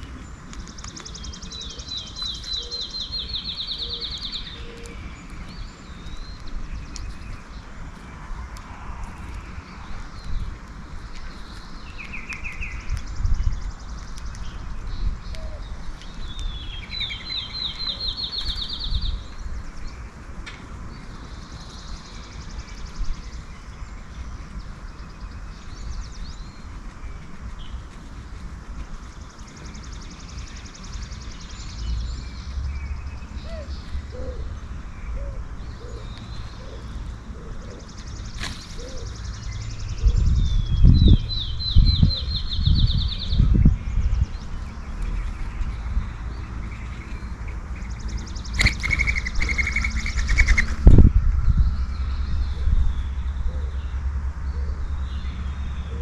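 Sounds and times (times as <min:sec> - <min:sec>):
low outdoor rumble: 0:00.0 - 0:56.0
songbird trill: 0:00.0 - 0:56.0.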